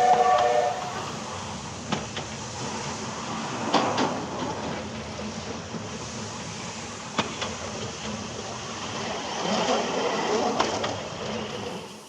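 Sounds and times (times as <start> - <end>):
sharp train clicks: 0.0 - 12.0
train rushing noise: 0.0 - 12.0.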